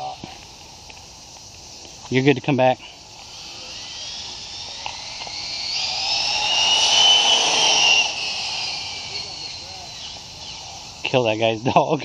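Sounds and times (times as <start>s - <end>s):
rc car motor whining: 0.0s - 12.0s.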